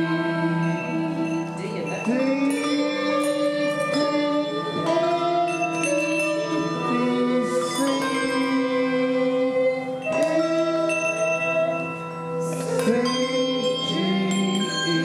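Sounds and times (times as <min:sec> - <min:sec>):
handbells playing a carol melody: 0:00.0 - 0:15.0.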